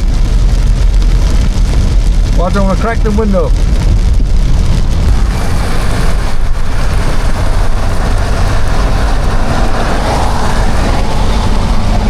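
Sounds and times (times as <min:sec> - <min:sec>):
air rushing through car window: 0:00.0 - 0:12.0
heavy rain: 0:00.0 - 0:12.0
road noise rumble: 0:00.0 - 0:12.0
wind buffeting microphone: 0:00.0 - 0:12.0.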